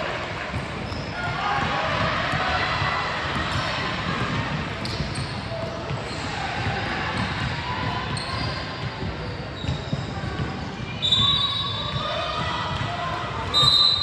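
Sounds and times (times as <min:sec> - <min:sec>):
basketball bouncing on court: 0:00.2 - 0:14.0.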